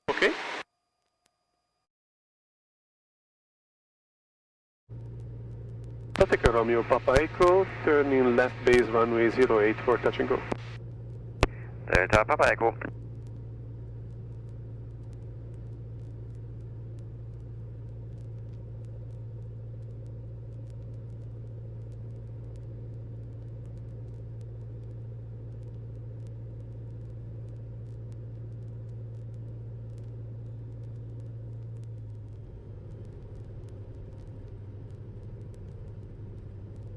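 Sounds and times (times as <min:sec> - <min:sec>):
airplane engine droning: 0:00.0 - 0:00.6, 0:04.9 - 0:36.9
faint clicks: 0:04.9 - 0:36.9.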